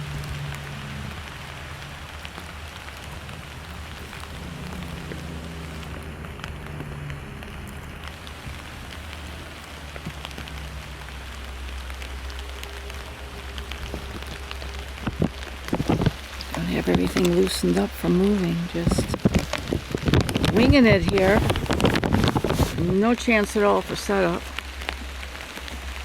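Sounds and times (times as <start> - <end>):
low steady rumble: 0.0 - 26.0
rain drops pattering: 0.0 - 26.0.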